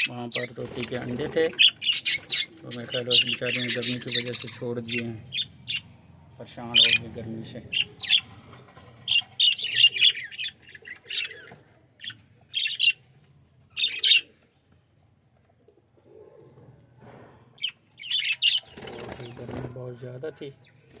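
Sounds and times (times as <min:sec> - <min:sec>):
budgerigars chirping and squawking: 0:00.0 - 0:13.1, 0:13.7 - 0:14.4, 0:17.6 - 0:21.0.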